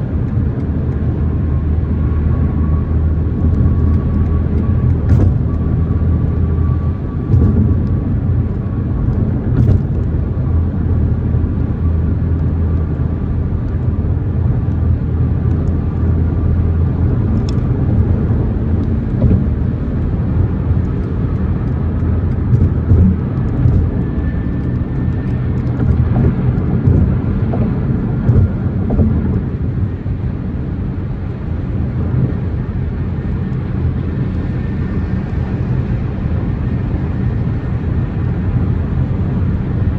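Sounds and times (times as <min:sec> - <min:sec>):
car engine running: 0:00.0 - 0:34.2
road noise: 0:00.0 - 0:39.9.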